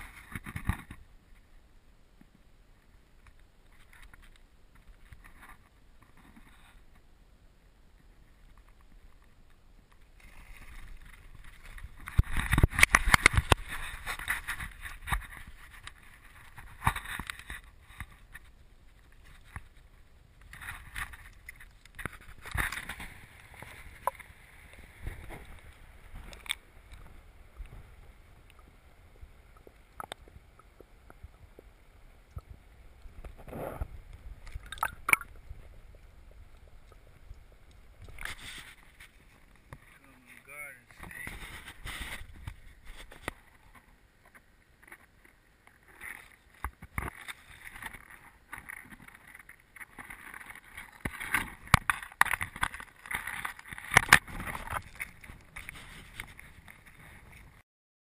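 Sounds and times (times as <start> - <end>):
water sloshing and gurgling: 10.0 - 40.0, 40.9 - 57.6.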